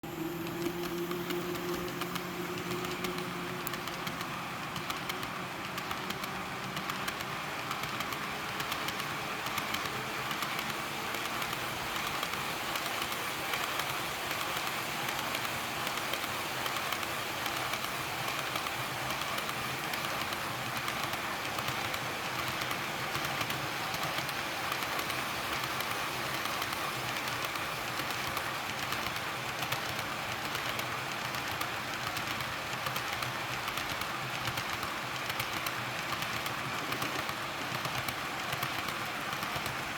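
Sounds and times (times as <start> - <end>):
model train wheels on track: 0.0 - 39.9
clicks from rail joints: 0.3 - 39.9.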